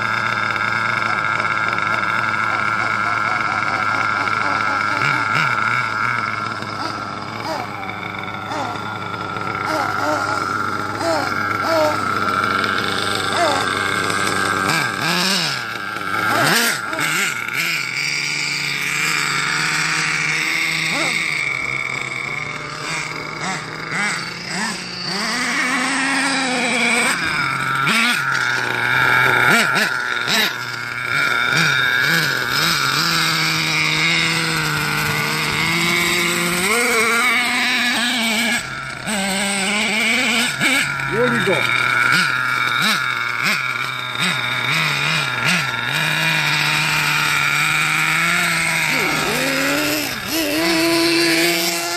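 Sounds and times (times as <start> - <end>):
small nitro engine running: 0.0 - 51.9.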